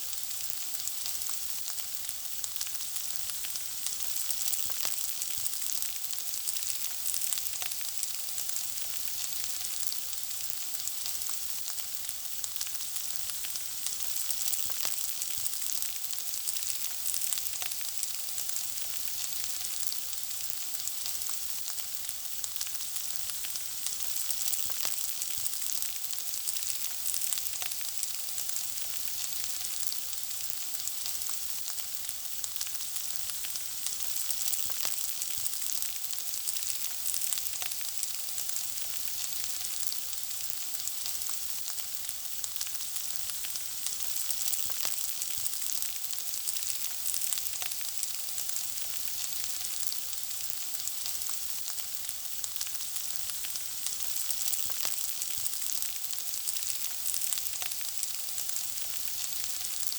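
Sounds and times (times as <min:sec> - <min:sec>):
food frying in hot oil: 0:00.0 - 0:59.9.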